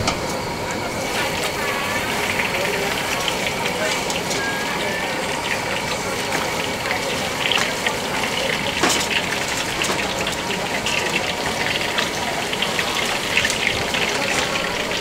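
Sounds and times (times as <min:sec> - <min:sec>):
oil sizzling and crackling: 0:00.1 - 0:15.0.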